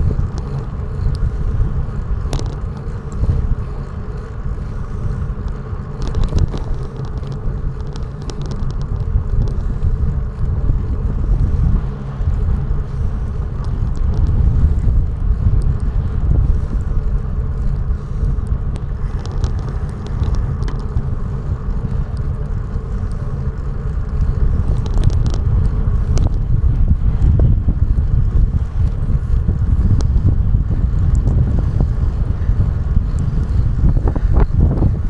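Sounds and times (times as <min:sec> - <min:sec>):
low rumble of travel: 0:00.0 - 0:35.0
sharp ticks: 0:00.0 - 0:35.0
wind buffeting microphone: 0:00.0 - 0:35.0.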